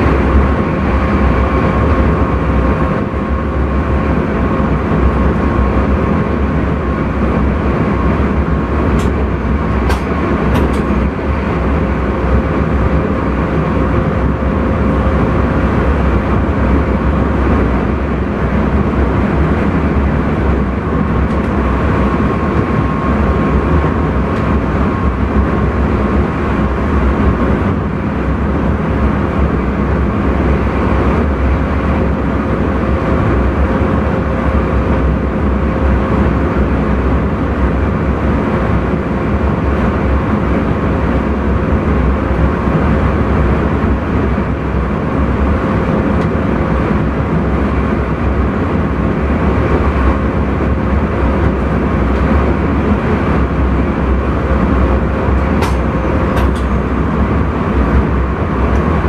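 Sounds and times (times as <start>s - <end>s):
steady hum: 0.0s - 59.0s
train wheels rumbling on rails: 0.0s - 59.0s.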